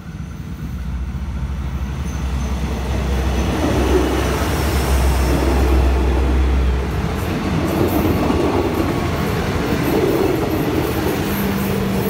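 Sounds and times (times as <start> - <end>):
diesel train passing: 0.0 - 12.0
train wheels rumbling on rails: 0.0 - 12.0.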